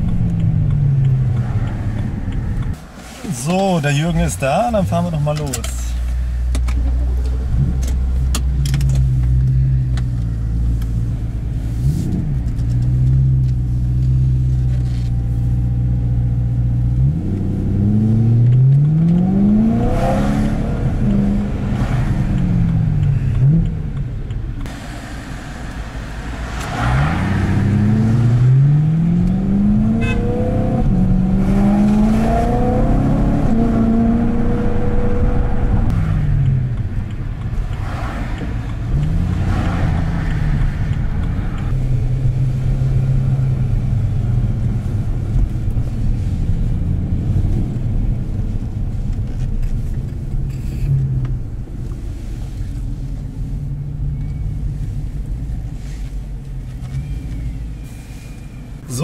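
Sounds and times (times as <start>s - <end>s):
car engine accelerating inside cabin: 0.0s - 2.8s, 6.7s - 24.7s, 25.3s - 57.8s.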